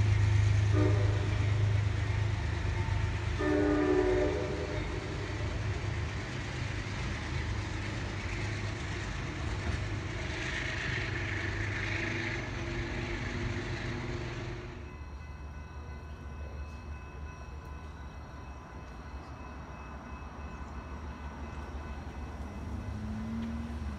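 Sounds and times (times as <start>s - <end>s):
diesel train engine rumble: 0.0s - 23.9s
faint steady tones: 0.0s - 23.9s
wheel and rail noise: 0.0s - 23.9s.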